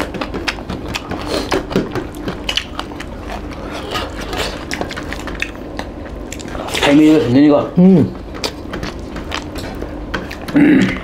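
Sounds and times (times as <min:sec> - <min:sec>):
hands mixing food on steel plates: 0:00.0 - 0:11.0
mouths chewing: 0:00.0 - 0:11.0.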